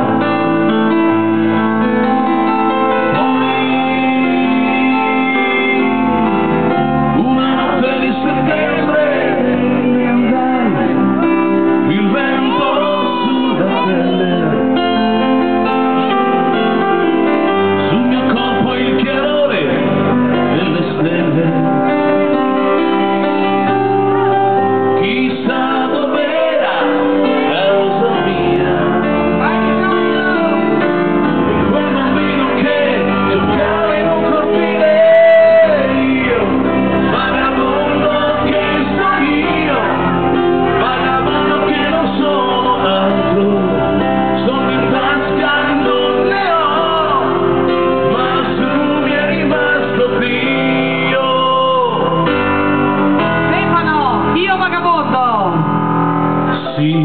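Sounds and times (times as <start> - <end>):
person singing: 0.0 - 53.7, 56.4 - 57.0
bass line: 0.0 - 57.0
keyboards: 0.0 - 57.0
live dance band playing: 0.0 - 57.0.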